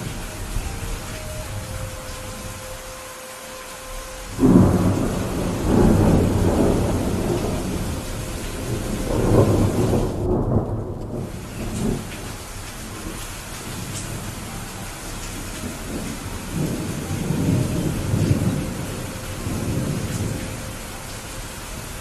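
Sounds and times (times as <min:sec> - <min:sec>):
steady rain: 0:00.0 - 0:22.0
rolling thunder: 0:03.9 - 0:22.0.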